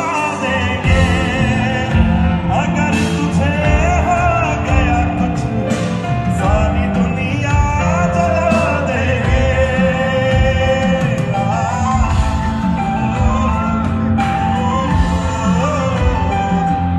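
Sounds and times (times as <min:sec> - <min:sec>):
instrumental backing with beat: 0:00.0 - 0:16.9
man singing: 0:00.0 - 0:16.9.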